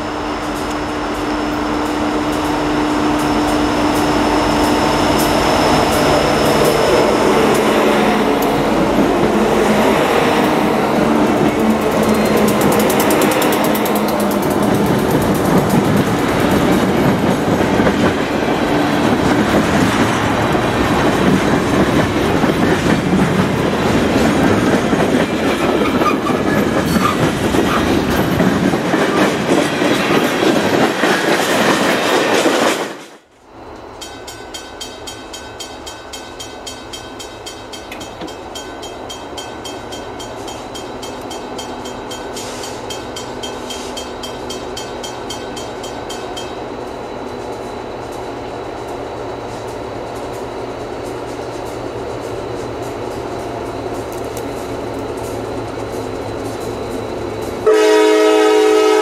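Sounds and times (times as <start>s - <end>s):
distant train rumble: 0.0s - 59.0s
freight train wheels clattering: 0.4s - 59.0s.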